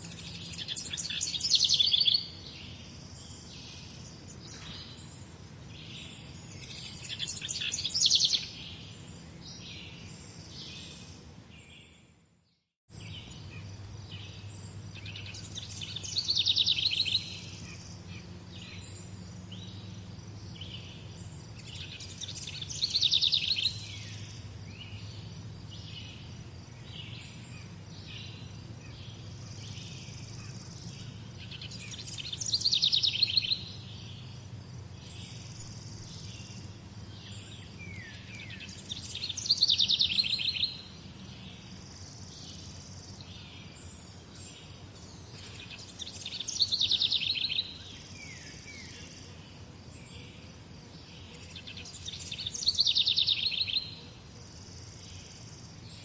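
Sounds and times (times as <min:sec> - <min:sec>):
bird chirps: 0:00.0 - 0:12.0, 0:12.9 - 0:34.4, 0:35.0 - 0:49.4, 0:51.1 - 0:54.0
songbirds singing: 0:00.0 - 0:56.0.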